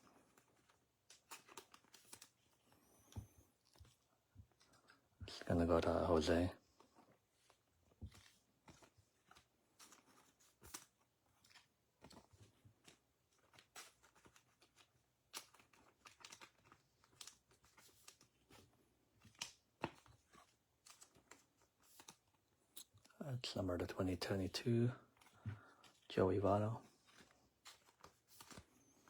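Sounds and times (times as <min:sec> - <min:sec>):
cards and packaging rustling: 0:00.0 - 0:29.0.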